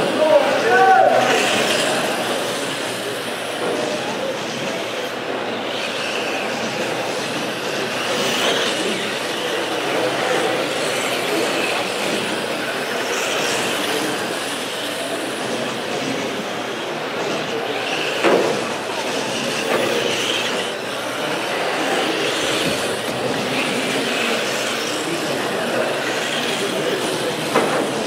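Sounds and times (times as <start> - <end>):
radio-controlled cars whirring: 0.0 - 28.0.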